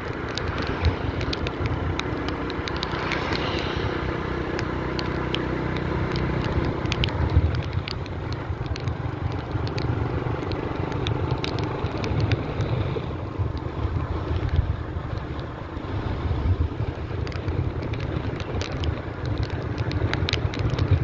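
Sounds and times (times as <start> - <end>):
sharp clicks and rattles: 0.0 - 15.5, 16.8 - 21.0.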